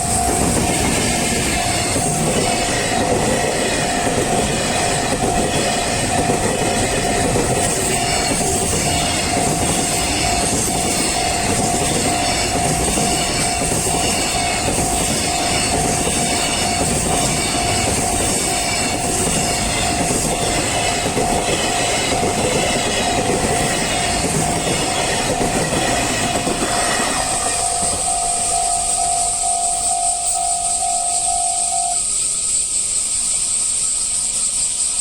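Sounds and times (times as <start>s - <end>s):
train wheels clattering on rails: 0.0s - 31.2s
crossing warning bell ringing: 0.0s - 32.2s.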